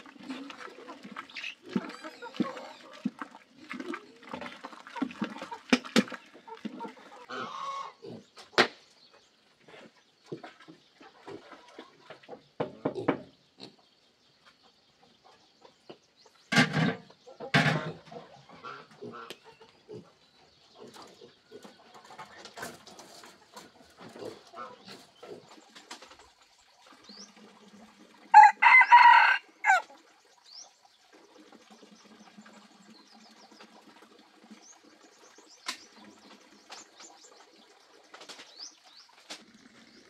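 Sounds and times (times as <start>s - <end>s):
chickens clucking: 0.0s - 40.0s.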